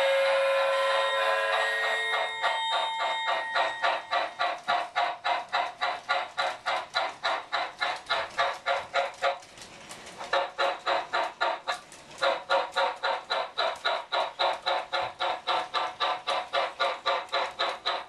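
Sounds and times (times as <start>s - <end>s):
electronic steam chuffing: 0.0s - 9.0s, 10.3s - 18.0s.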